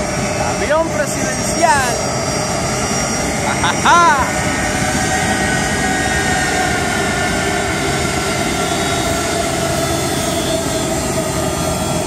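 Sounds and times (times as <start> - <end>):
jet engines taxiing: 0.0 - 12.0.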